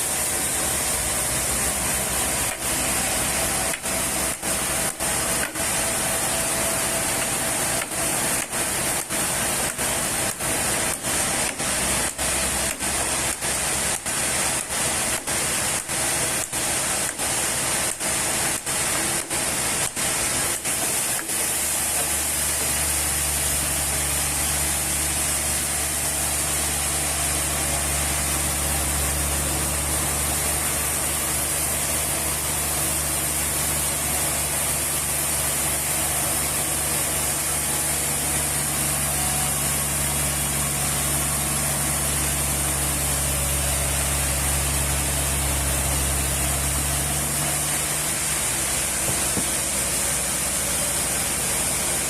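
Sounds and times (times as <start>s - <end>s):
low motor hum: 0.0s - 17.9s, 18.5s - 52.0s
sawmill machinery hissing: 0.0s - 52.0s.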